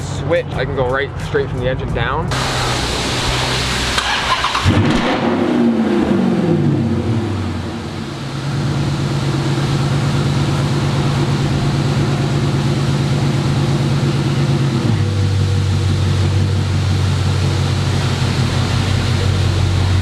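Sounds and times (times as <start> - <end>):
car engine revving and idling: 2.3 - 20.0.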